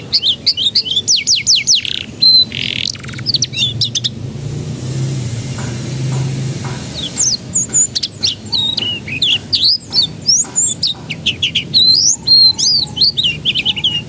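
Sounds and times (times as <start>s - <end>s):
canary singing: 0.0s - 4.3s, 6.2s - 14.0s.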